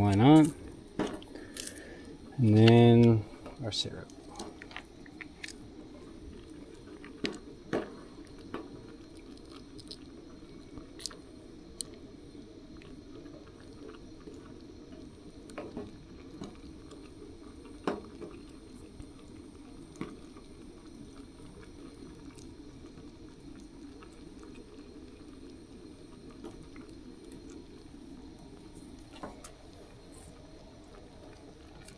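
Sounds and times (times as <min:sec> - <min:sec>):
pot simmering and bubbling: 0:00.0 - 0:31.9.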